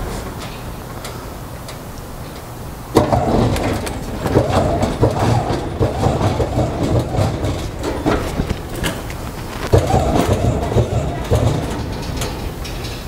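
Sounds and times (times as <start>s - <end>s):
truck liftgate motor humming: 1.1s - 13.0s
liftgate platform rattling and clanking: 1.7s - 13.0s.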